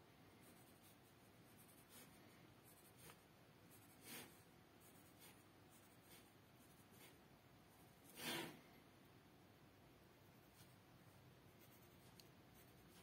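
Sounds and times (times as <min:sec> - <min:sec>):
pencil scratching on paper: 0:00.4 - 0:08.6, 0:10.3 - 0:13.0.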